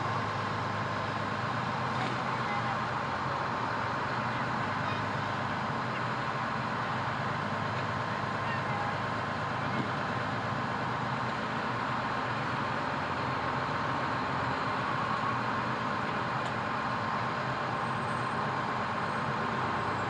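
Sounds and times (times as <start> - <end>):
fire truck engine running: 0.0 - 20.0
road noise: 0.0 - 20.0.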